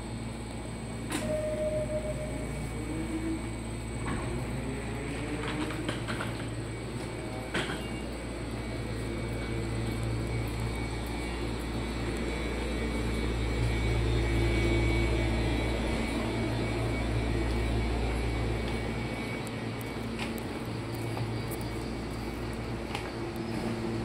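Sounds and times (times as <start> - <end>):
electric train humming: 0.0 - 24.0.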